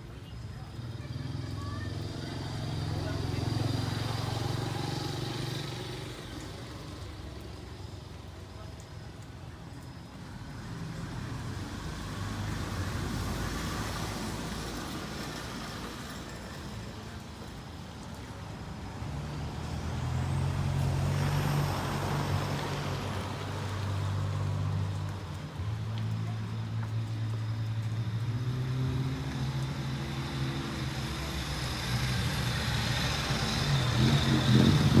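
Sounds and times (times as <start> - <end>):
large vehicle engine running: 0.0 - 35.0.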